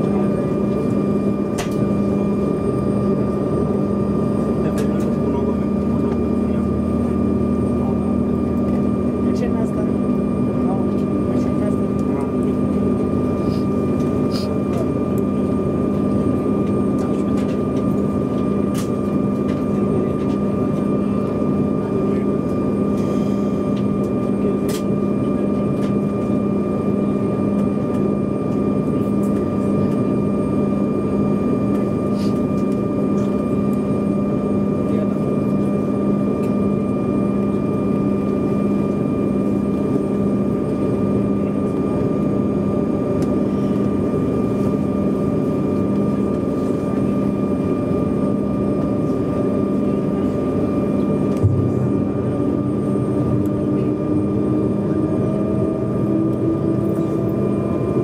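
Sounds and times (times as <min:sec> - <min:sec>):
jet engines idling in cabin: 0:00.0 - 0:58.0.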